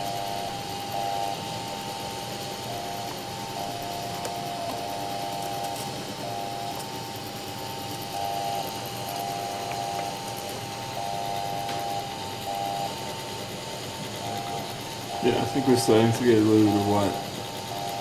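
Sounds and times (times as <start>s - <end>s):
cooling fan hiss: 0.0s - 18.0s
stepper motors whining: 0.0s - 18.0s.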